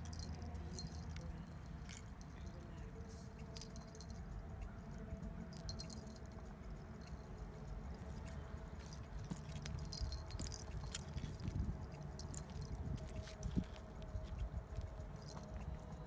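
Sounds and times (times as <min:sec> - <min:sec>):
metal harness jingling: 0:00.0 - 0:04.6, 0:05.4 - 0:16.0.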